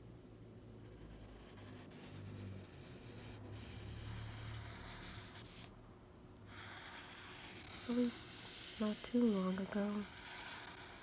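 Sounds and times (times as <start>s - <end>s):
drawing tool scratching paper: 0.9s - 5.7s, 6.5s - 11.0s.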